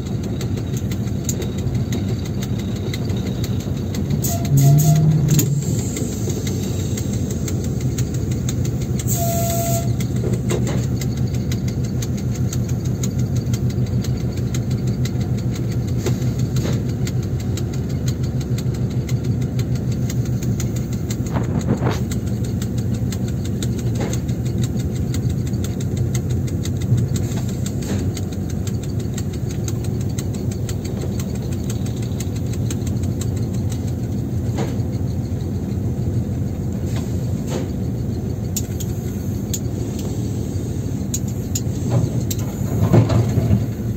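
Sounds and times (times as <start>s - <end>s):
diesel locomotive engine running: 0.0s - 43.9s.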